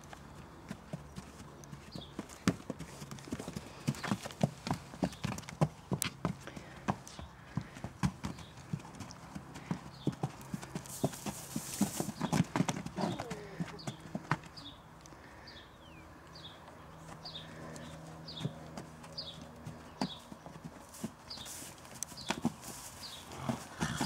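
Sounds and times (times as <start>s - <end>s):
hooves on sand: 0.0s - 15.6s, 16.3s - 24.0s.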